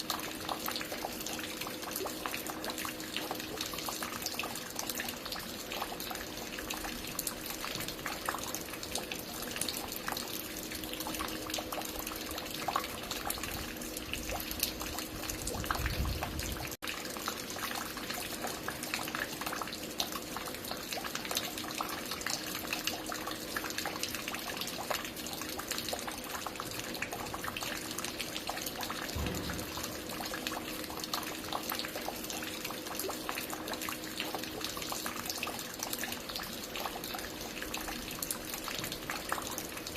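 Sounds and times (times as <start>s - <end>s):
water dripping and pattering: 0.0s - 39.9s.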